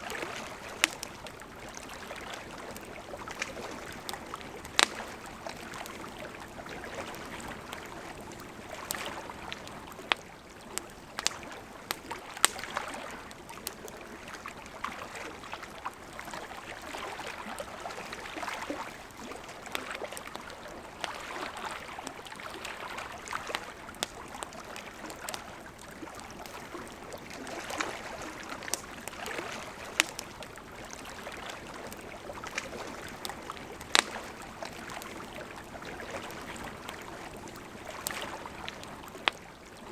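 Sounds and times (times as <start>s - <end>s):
campfire crackling: 0.0s - 39.9s
river flowing: 0.0s - 39.9s.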